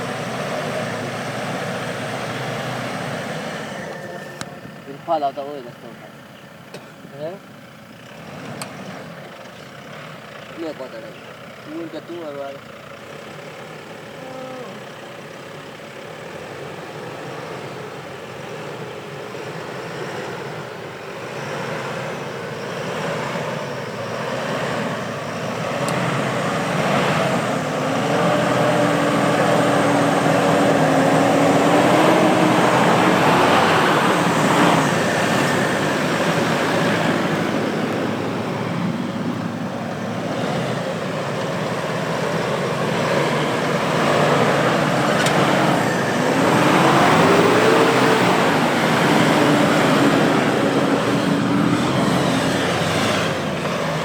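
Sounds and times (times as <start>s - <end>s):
diesel suv engine revving: 0.0s - 54.0s.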